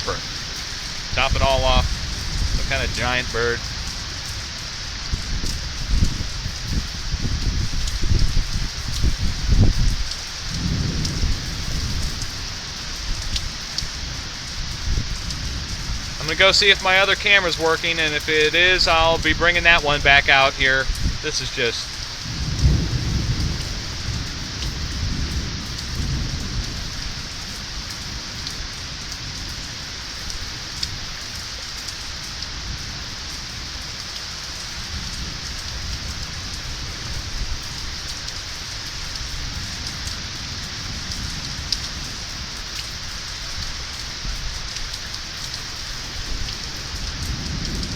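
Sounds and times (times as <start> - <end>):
low rumble of thunder: 0.0 - 16.8, 18.8 - 21.2, 21.8 - 47.9
steady rain falling: 0.0 - 47.9.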